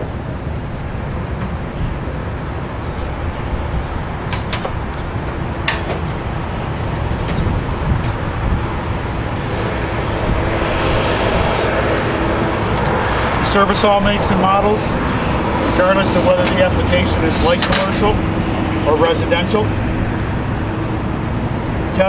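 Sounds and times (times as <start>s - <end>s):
distant traffic: 0.0s - 22.0s.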